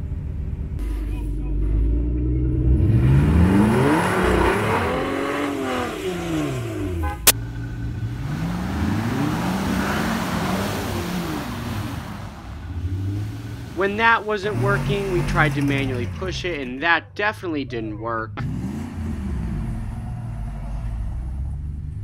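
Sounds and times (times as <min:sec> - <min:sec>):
truck engine revving: 0:00.8 - 0:22.0.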